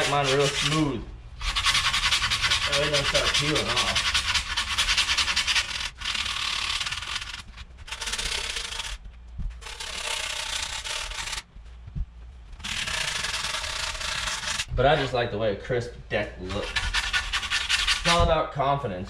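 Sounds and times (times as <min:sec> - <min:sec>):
grip tape scraping: 0:00.0 - 0:11.5, 0:12.5 - 0:15.2, 0:16.4 - 0:18.3.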